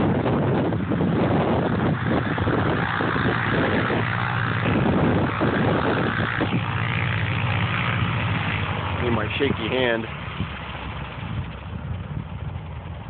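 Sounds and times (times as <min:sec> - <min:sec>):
radial aircraft engine running: 0:00.0 - 0:13.0.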